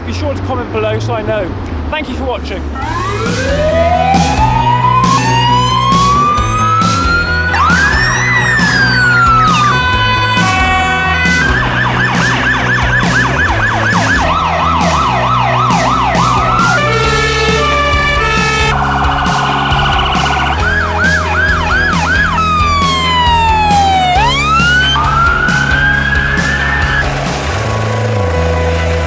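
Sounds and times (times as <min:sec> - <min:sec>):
emergency vehicle sirens: 0:02.7 - 0:29.0
background music with steady beat: 0:02.9 - 0:29.0.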